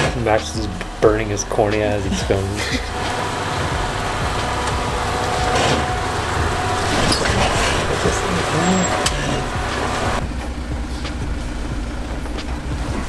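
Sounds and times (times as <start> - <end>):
off-road vehicle engine running: 0.0 - 13.0
rushing noise: 0.0 - 13.0.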